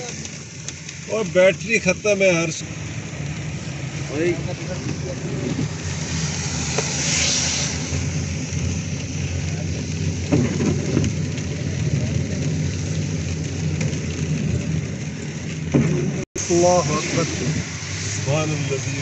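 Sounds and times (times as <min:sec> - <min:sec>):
car engine hum: 0:00.0 - 0:19.0
heavy rain on car roof: 0:00.0 - 0:19.0
tyres on wet road: 0:00.0 - 0:19.0.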